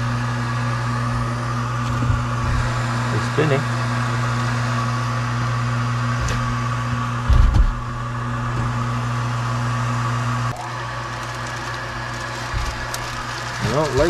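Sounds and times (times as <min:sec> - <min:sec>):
furnace inducer motor humming: 0:00.0 - 0:14.0.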